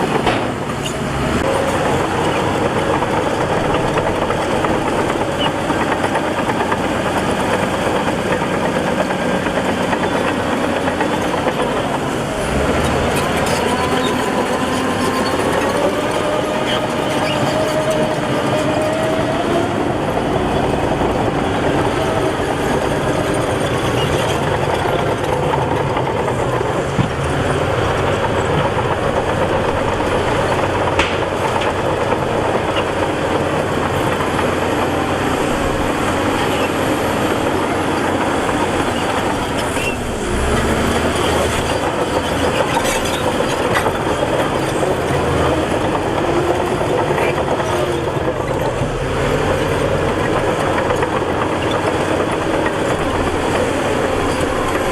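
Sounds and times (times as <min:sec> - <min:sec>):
bulldozer diesel engine droning: 0:00.0 - 0:54.9
steel tracks clattering: 0:00.0 - 0:54.9.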